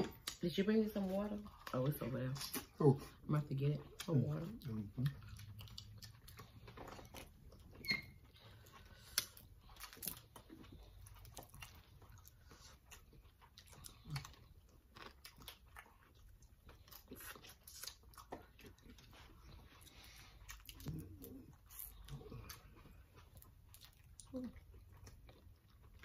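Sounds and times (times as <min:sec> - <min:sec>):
chewing and mouth smacks: 0:01.0 - 0:26.0.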